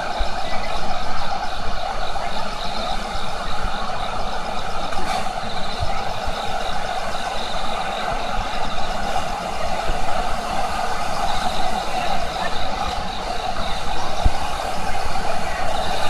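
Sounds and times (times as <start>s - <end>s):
firework fountain rushing: 0.0s - 16.0s.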